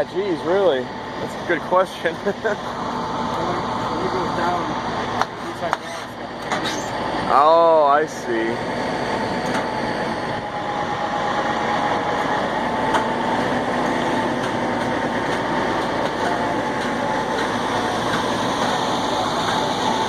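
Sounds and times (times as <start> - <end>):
thin steady whine: 0.0 - 20.0
truck mechanical rumble and hiss: 0.0 - 20.0.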